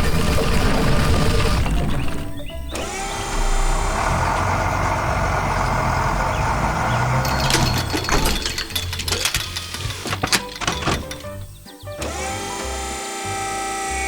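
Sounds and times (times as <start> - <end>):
sharp crackling and clattering: 0.0 - 11.9
truck engine running: 0.0 - 12.7.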